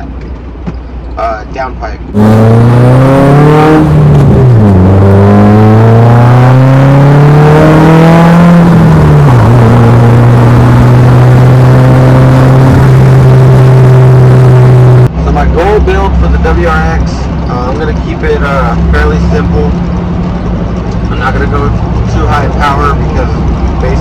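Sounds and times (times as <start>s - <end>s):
car engine accelerating hard: 2.1s - 24.0s.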